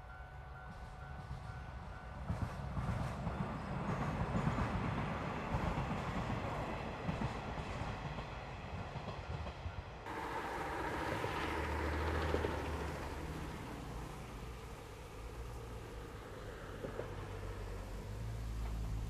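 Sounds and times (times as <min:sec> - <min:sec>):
steam locomotive low rumble: 0:00.0 - 0:19.0.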